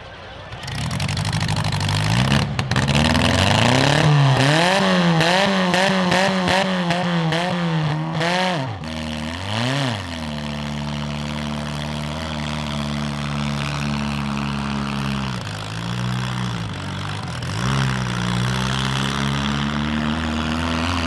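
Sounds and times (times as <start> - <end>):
car engine revving hard: 1.0 - 21.0.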